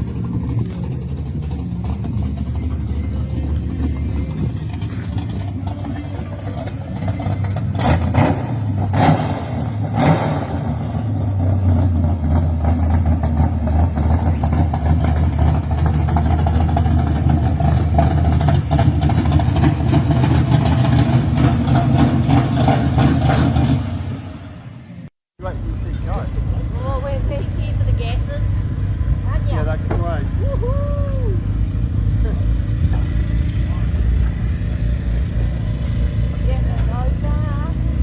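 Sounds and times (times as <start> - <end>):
hot rod engine rumbling: 0.0 - 38.0.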